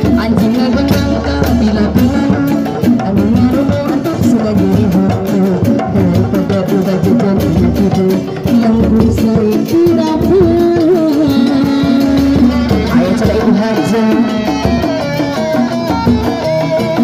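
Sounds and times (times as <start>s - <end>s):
woman singing: 0.0s - 16.9s
barrel drums beaten: 0.0s - 17.0s.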